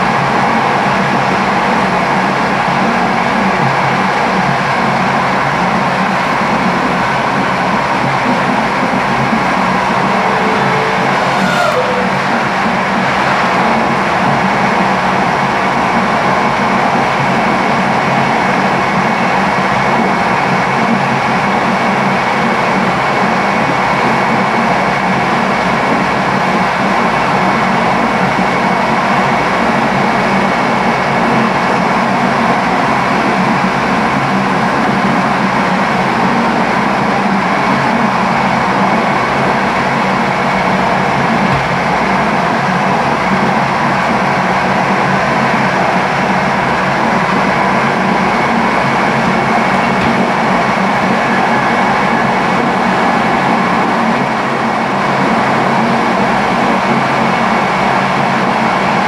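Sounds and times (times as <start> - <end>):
train rolling on rails: 0.0 - 59.0.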